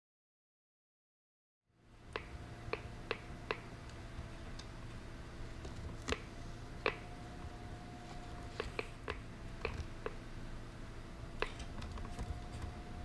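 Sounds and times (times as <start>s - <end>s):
faint steady hum: 1.7s - 13.0s.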